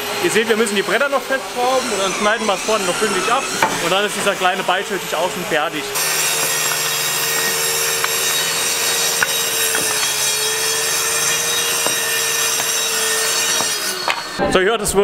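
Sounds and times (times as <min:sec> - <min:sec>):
saw cutting wood hiss: 0:00.0 - 0:14.4
circular saw whining: 0:00.0 - 0:14.6.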